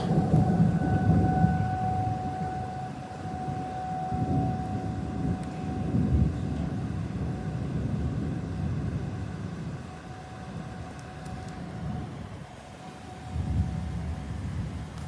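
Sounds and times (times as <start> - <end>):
warning siren wailing: 0.0 - 14.8.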